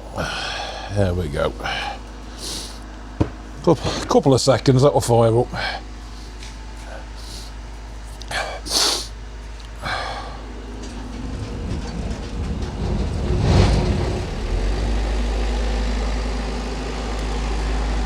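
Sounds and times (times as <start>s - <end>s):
generator engine starting and running: 0.0s - 18.0s.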